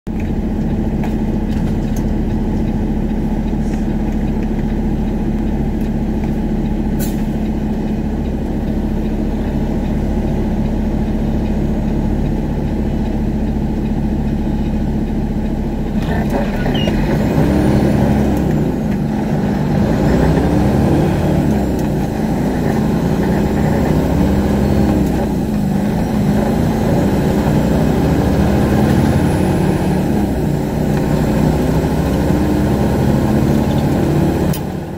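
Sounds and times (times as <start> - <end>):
truck diesel engine: 0.1 - 34.9.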